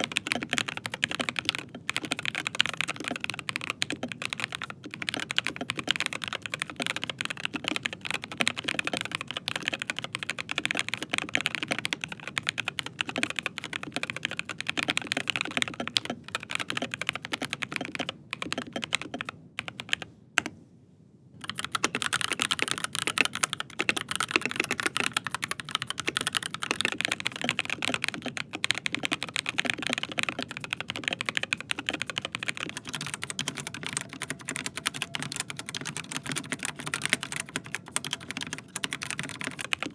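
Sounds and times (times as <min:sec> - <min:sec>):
mechanical keyboard typing: 0:00.0 - 0:20.5, 0:21.4 - 0:39.9.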